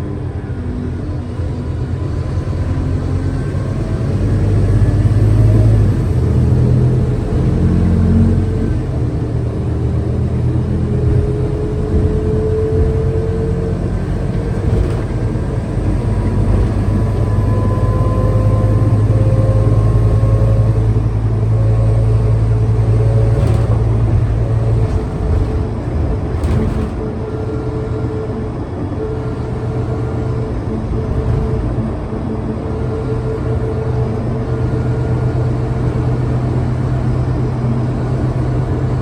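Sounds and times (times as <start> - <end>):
bus engine droning: 0.0 - 39.0
drivetrain whine: 0.0 - 39.0.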